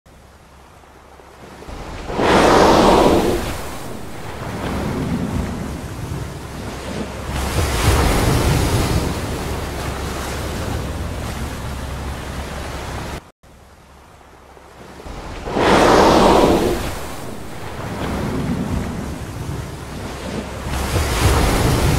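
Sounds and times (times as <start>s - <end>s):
ocean waves and surf: 0.1s - 21.9s.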